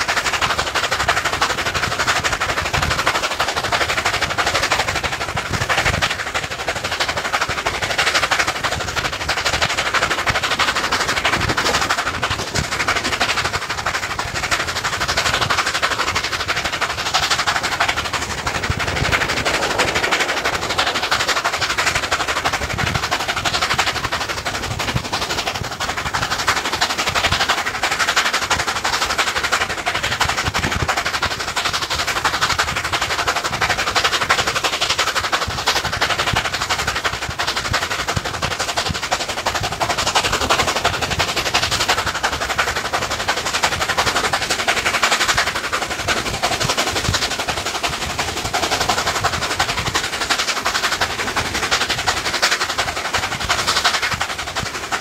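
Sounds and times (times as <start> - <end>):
steam locomotive exhaust beats: 0.0 - 55.0
wheels clattering over rails: 0.0 - 55.0.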